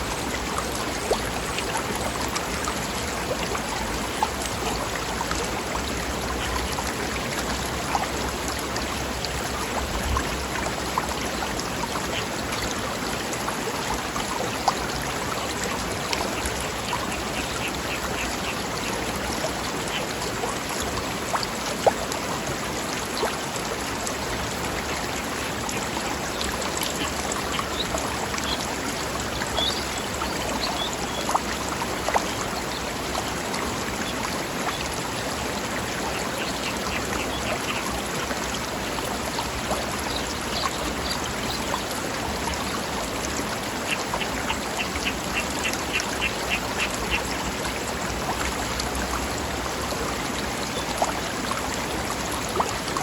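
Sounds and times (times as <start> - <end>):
stream babbling over rocks: 0.0 - 53.0.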